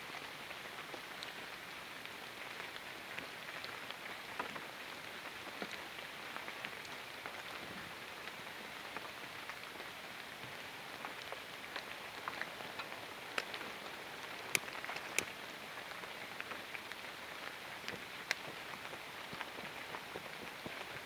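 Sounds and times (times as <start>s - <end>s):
light rain pattering: 0.0s - 21.0s.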